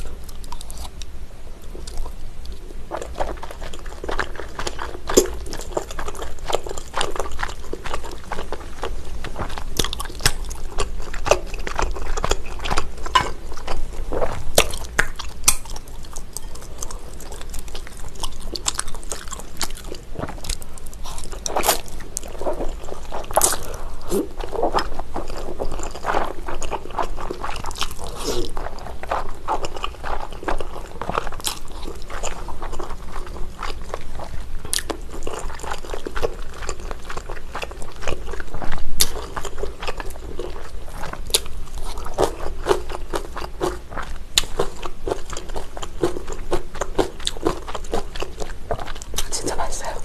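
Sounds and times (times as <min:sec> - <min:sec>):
biting and chewing cabbage: 0:01.8 - 0:49.9
slurping and chewing noodles: 0:01.8 - 0:50.0.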